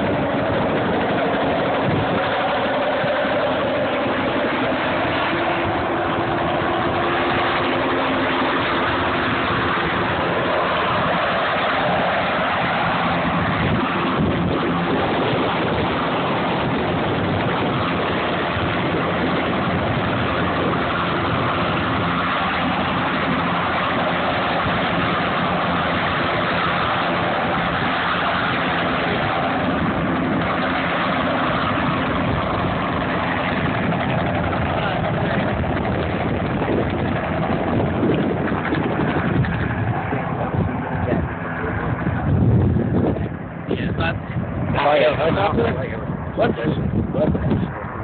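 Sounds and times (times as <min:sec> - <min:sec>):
helicopter rotor and engine drone: 0:00.0 - 0:48.0.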